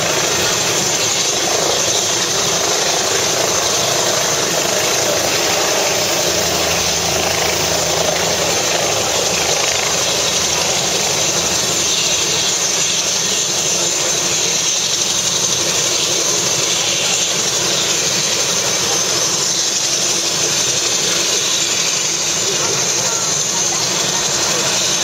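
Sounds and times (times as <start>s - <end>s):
helicopter idling: 0.0s - 25.0s.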